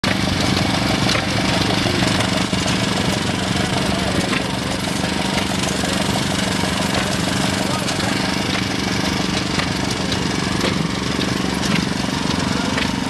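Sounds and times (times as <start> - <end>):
small engine putter: 0.0 - 13.0.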